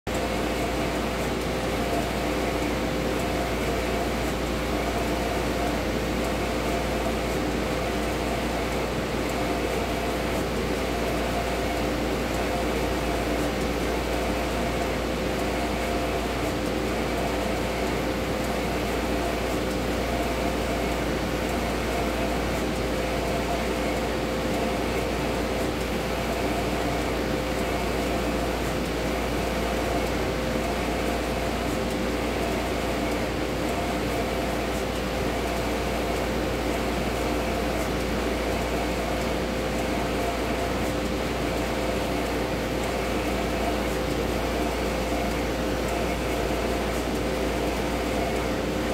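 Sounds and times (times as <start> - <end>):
printer fans humming with whine: 0.1 - 48.9.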